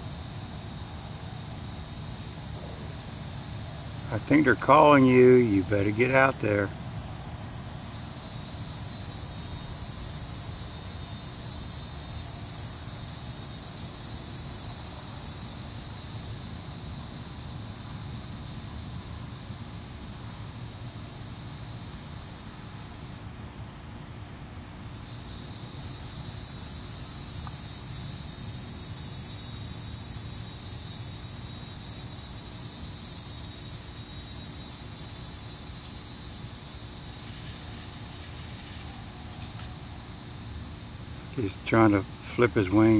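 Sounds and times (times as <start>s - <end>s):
cicadas buzzing: 0.0s - 42.9s.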